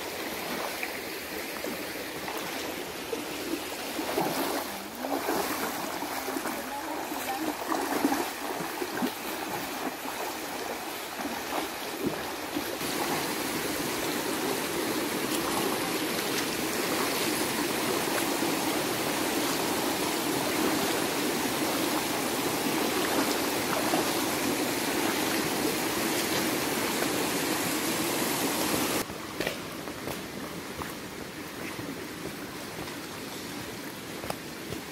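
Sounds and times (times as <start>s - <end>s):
river rushing over stones: 0.0s - 29.2s.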